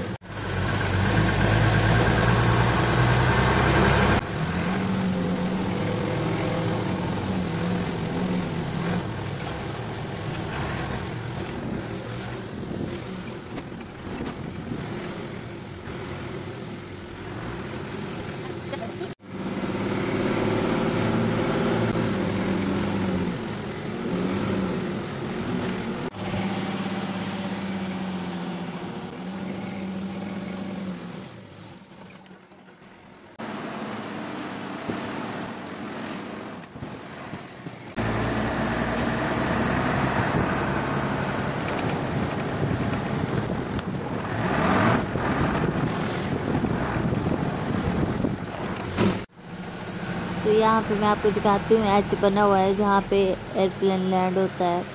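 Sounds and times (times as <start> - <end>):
road and wind noise: 0.0 - 54.9
truck engine drone: 0.0 - 54.9.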